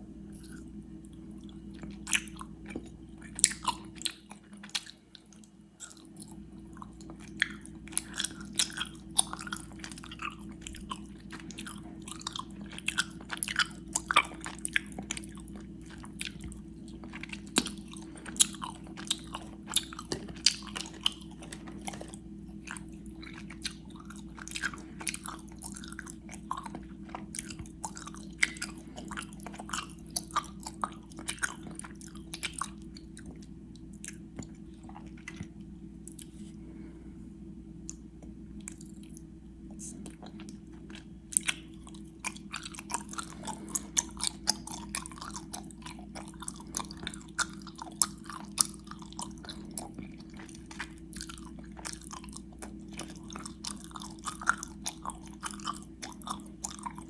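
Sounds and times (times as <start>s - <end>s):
sticky chewing smacks: 0.4s - 36.6s, 37.8s - 57.0s.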